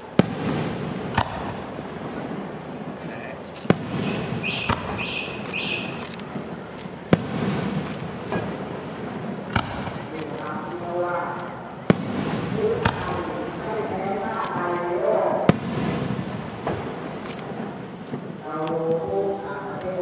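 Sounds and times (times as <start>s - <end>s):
firework bangs: 0.0s - 20.0s
rumbling echo: 0.0s - 20.0s.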